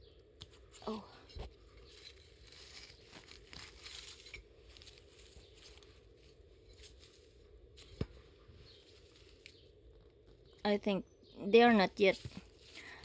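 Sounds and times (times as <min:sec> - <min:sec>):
rustling of plants being handled: 0:00.5 - 0:13.0.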